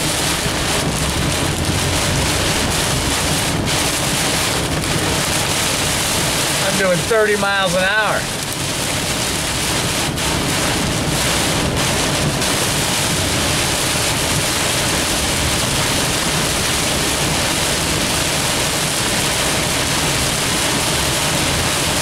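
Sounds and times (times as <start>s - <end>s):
heavy rain on car windshield: 0.0s - 22.0s.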